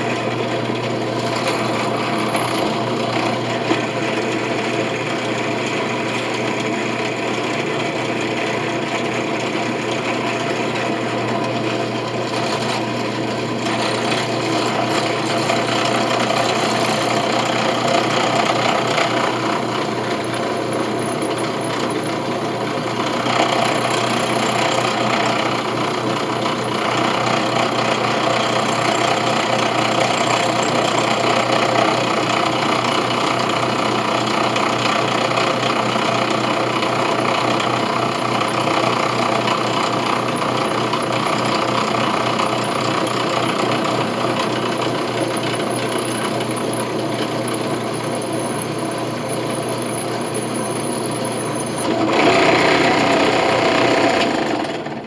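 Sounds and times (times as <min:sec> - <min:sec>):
electric drill boring into metal: 0:00.0 - 0:07.2, 0:11.0 - 0:55.0.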